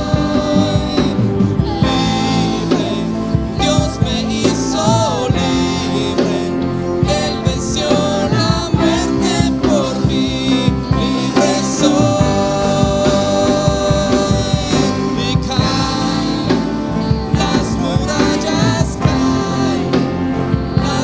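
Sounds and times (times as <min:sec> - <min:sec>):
person singing: 0:00.0 - 0:21.0
worship band music: 0:00.0 - 0:21.0.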